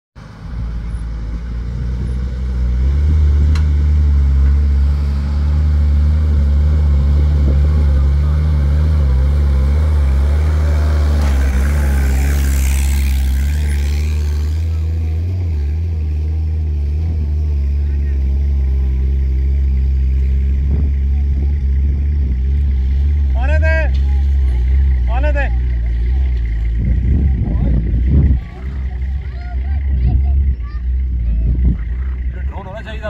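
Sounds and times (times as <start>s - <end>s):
car engine working under load: 0.2s - 33.0s.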